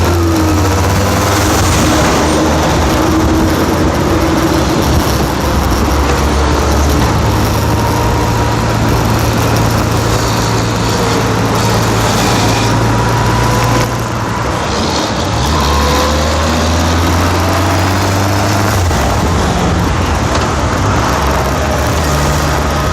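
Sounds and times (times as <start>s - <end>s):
vehicle engine humming: 0.0s - 22.9s.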